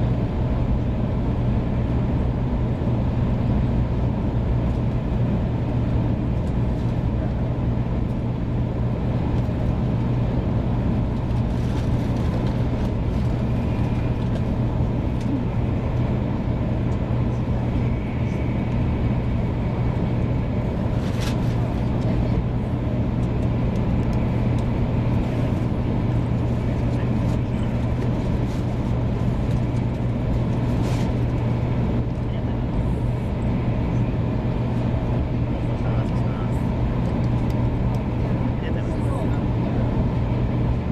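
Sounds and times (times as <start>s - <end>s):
train running rumble: 0.0s - 40.9s.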